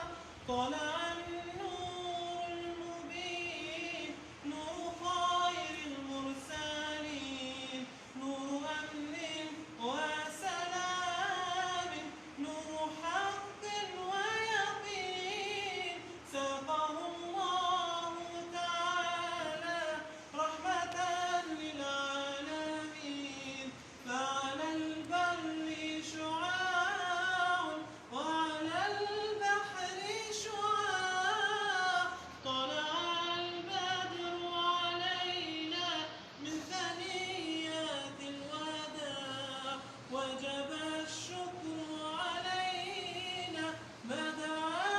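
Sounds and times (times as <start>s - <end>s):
unaccompanied singing voices: 0.0s - 44.9s.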